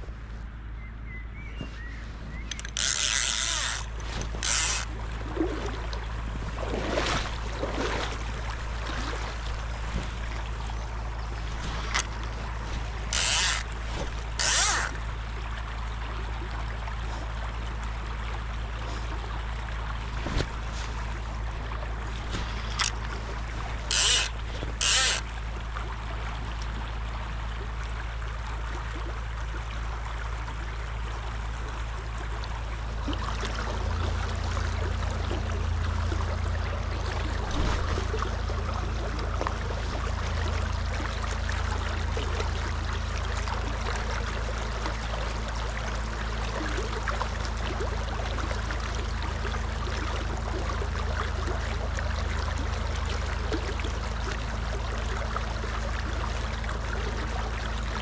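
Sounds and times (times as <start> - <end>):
low hum: 0.0 - 58.0
river water running: 0.0 - 58.0.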